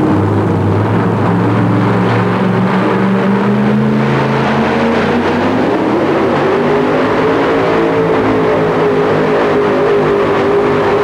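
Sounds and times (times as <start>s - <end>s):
truck engine running at high revs: 0.0s - 11.0s.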